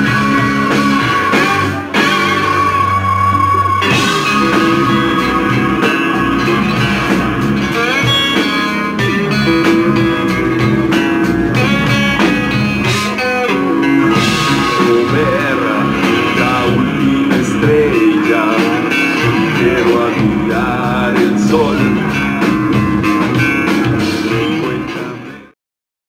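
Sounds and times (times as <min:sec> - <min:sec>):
guitar background music: 0:00.0 - 0:25.5.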